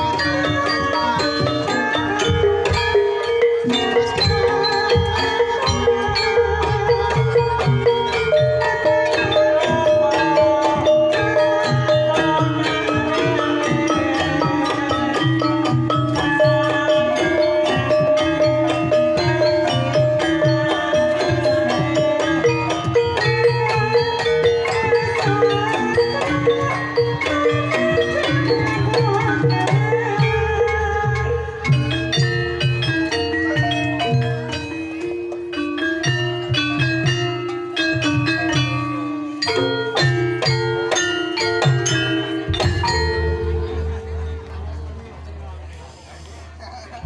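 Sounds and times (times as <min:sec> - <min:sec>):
steady drum pattern: 0:00.0 - 0:45.8
mallet percussion interlocking notes: 0:00.0 - 0:47.0.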